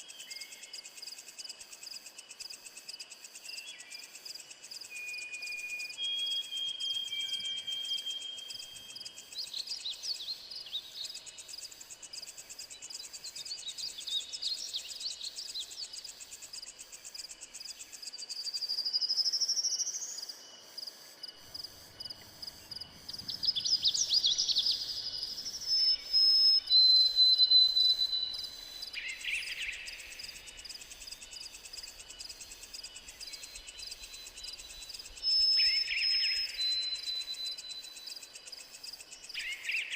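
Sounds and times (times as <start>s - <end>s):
crickets and cicadas trilling: 0.0s - 39.9s.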